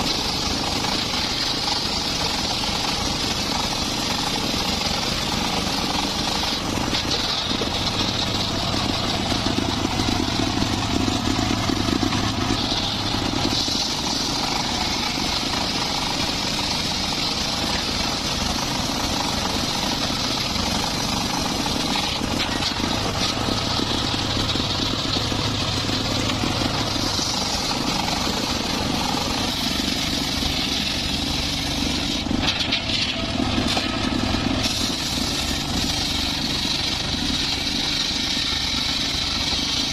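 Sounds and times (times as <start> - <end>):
circular saw whine: 0.0 - 39.9
engine hum: 0.0 - 39.9.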